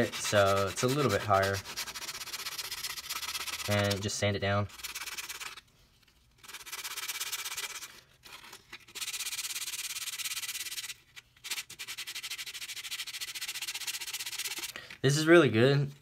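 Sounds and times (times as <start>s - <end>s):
sandpaper scraping leather: 0.0s - 5.6s, 6.4s - 14.7s.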